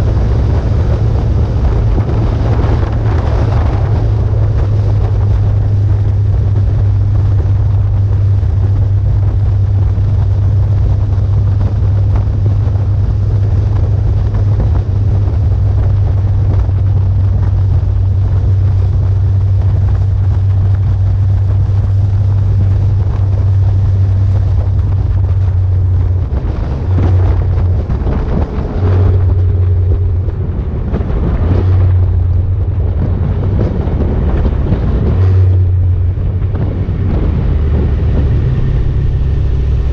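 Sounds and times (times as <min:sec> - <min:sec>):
motorcycle engine droning: 0:00.0 - 0:39.9
wind noise on microphone: 0:00.0 - 0:39.9.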